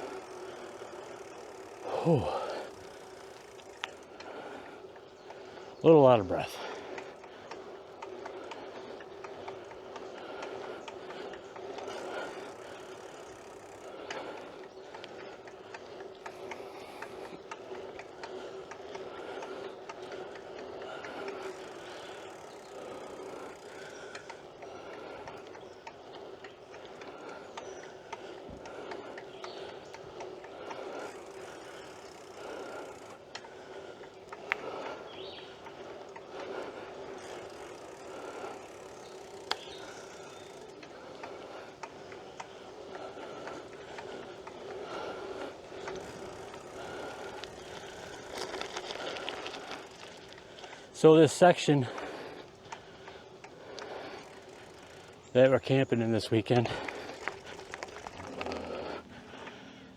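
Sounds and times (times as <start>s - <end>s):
bike clicks and rattles: 0.0s - 59.9s
bike tyres rolling hum: 0.0s - 59.9s.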